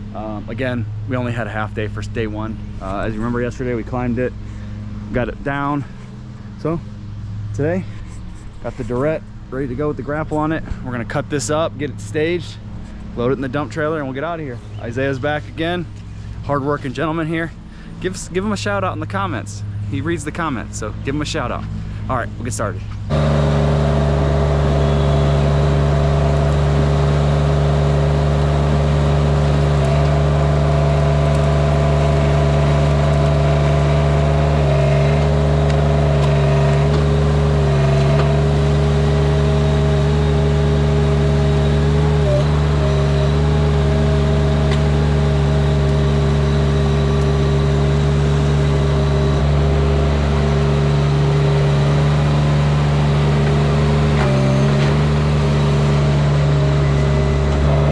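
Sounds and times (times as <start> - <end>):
loader engine running: 0.0 - 57.9.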